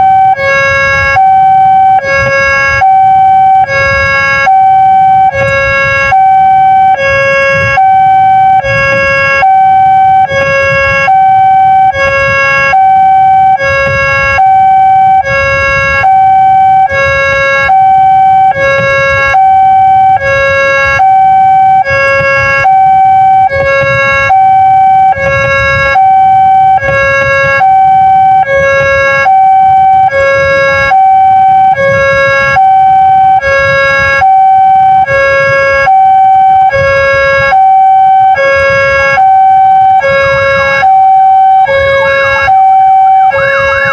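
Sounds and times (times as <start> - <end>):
two-tone level-crossing alarm: 0.0 - 43.9.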